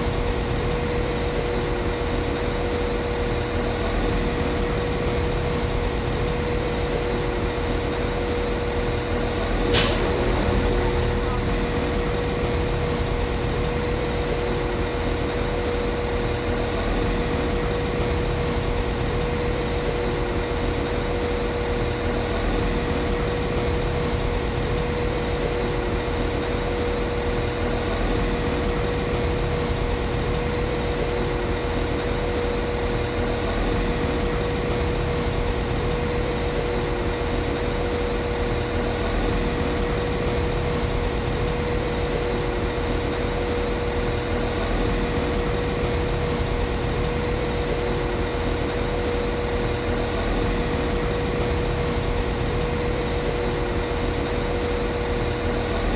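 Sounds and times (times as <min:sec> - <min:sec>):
diesel train engine idling: 0:00.0 - 0:55.9.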